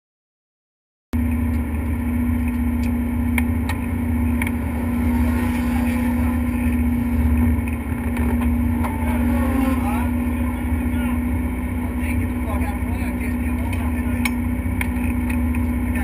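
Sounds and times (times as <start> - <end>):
race car engine running: 1.2 - 16.0.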